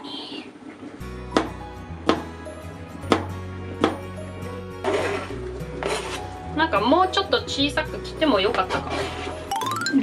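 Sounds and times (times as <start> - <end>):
background music: 1.0 - 10.0.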